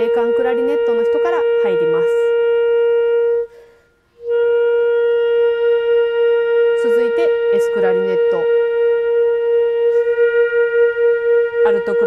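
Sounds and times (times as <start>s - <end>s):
clarinets holding a long note: 0.0s - 12.0s.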